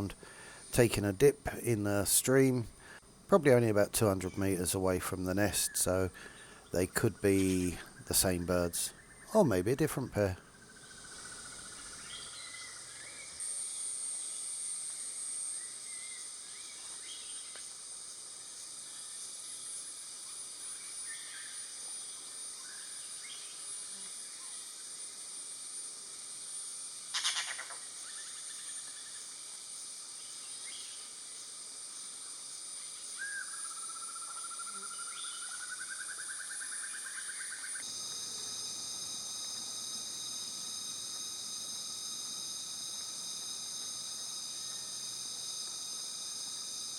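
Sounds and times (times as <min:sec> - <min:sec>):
insect chorus drone: 0:00.0 - 0:46.9.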